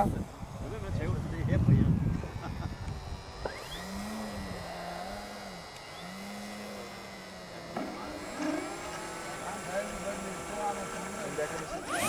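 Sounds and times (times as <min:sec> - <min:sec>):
model aeroplane engine drone: 0:00.0 - 0:12.0.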